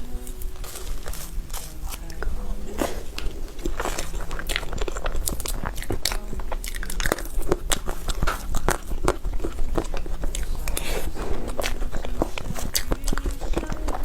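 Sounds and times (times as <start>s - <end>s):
biting and chewing cake: 0.0s - 14.0s.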